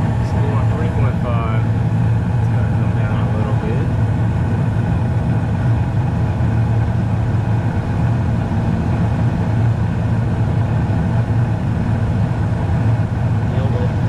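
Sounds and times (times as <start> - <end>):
gas furnace burners and fans: 0.0 - 14.0.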